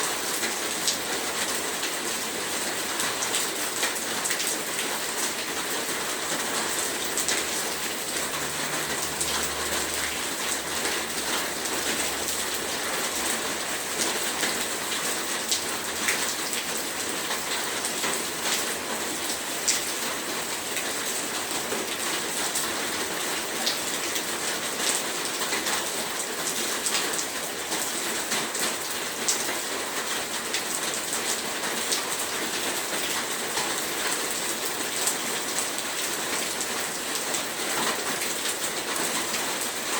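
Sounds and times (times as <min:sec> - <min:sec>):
heavy rain falling: 0:00.0 - 0:39.9
raindrops ticking on a surface: 0:00.1 - 0:39.9.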